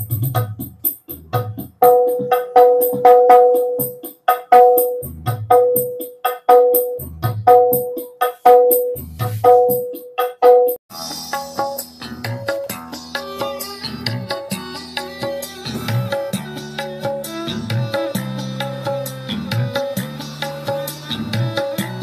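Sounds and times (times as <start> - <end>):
percussion music through speaker: 0.0 - 22.0.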